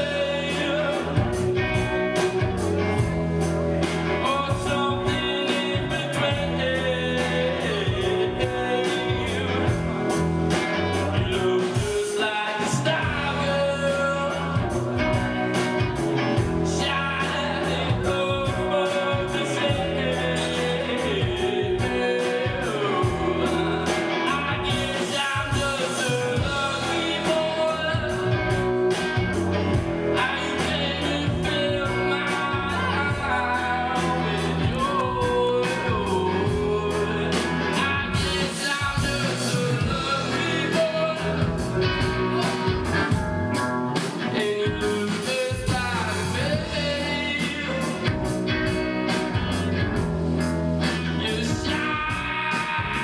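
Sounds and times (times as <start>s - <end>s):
rock band with singer: 0.0s - 53.0s.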